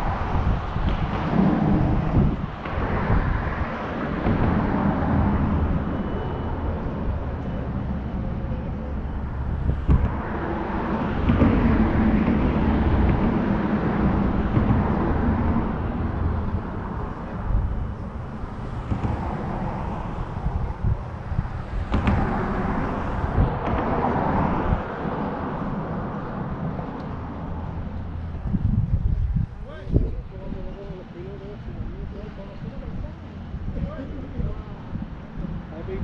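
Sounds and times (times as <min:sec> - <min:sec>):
low engine hum: 0:00.0 - 0:36.0
motor vehicle rumble: 0:00.0 - 0:36.0.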